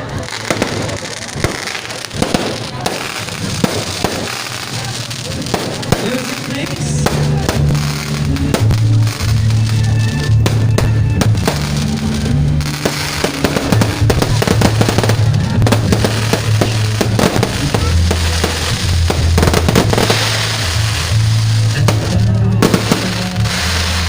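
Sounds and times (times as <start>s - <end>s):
fireworks bursting and crackling: 0.0s - 24.0s
music with steady bass line: 0.2s - 24.0s.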